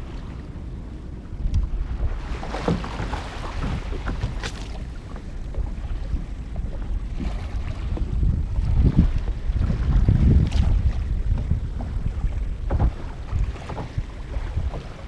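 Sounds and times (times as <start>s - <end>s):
water splashing against kayak: 0.0s - 15.0s
wind rumbling on microphone: 0.0s - 15.0s.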